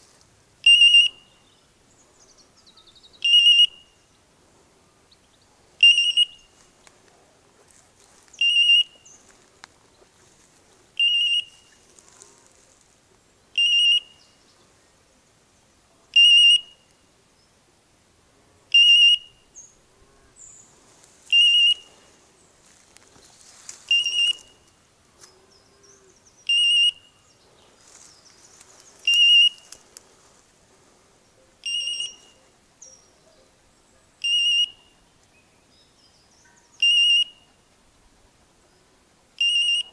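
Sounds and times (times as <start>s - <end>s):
rustling of dry undergrowth: 0.0s - 39.9s.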